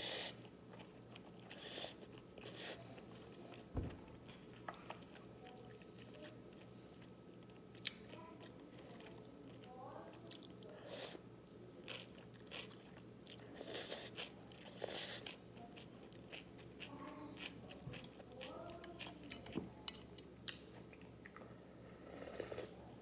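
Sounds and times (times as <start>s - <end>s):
chewing and crunching: 0.4s - 22.8s.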